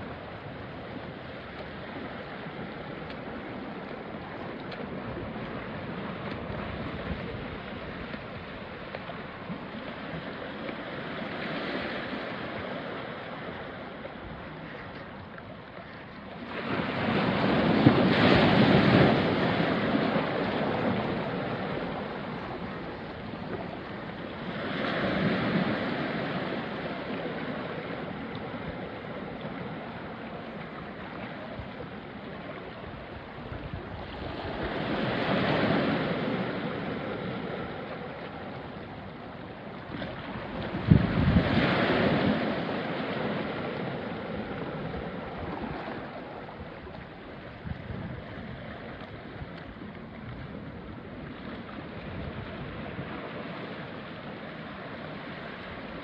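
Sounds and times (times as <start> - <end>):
waves washing onto rocky shore: 0.0 - 56.0.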